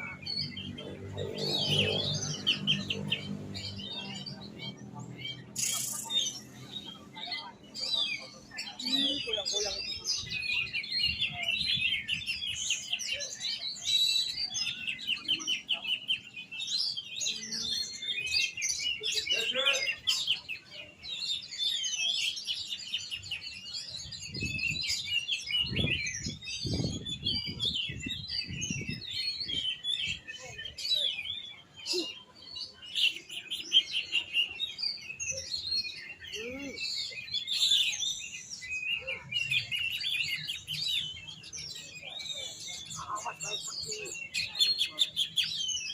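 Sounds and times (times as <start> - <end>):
bird singing chirps and trills: 0.0 - 45.9.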